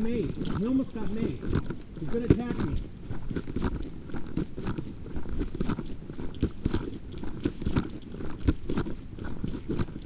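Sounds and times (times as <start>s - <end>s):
crunchy footsteps: 0.0s - 10.0s.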